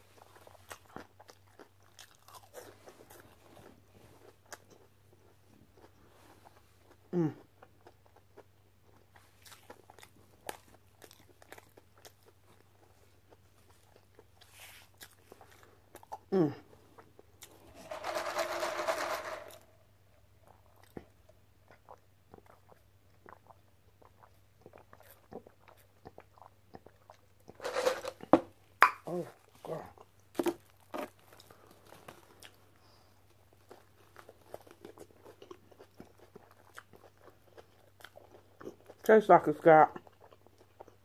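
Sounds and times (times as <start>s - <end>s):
chewing food: 0.0s - 17.8s, 20.1s - 27.6s, 28.2s - 41.0s.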